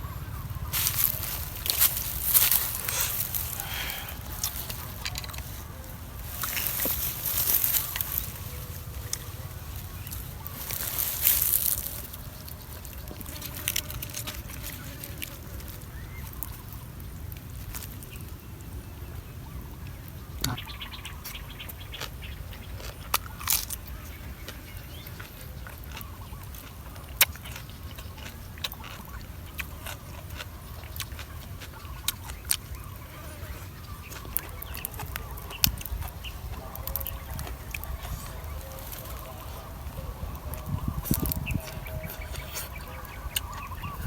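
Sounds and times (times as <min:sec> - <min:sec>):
eating crunches and clicks: 0:00.7 - 0:18.4, 0:19.8 - 0:44.0.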